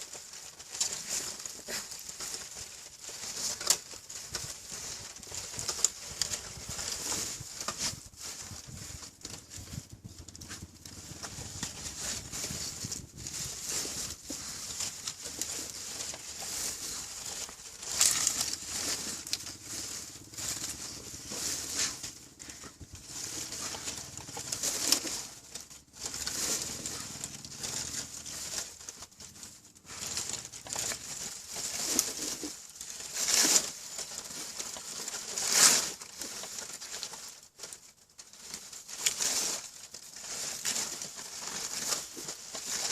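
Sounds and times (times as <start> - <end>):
dog rustling and scraping: 0.0 - 42.9.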